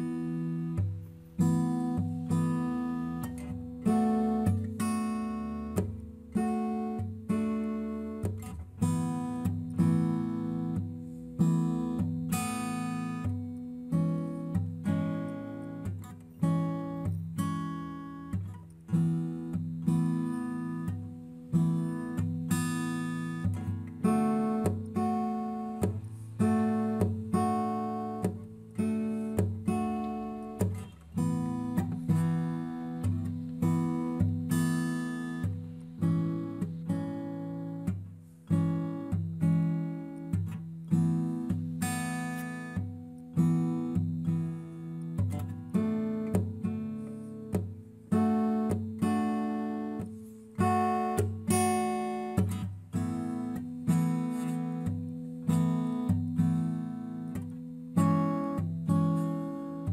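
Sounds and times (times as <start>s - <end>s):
acoustic guitar chords: 0.0s - 59.9s.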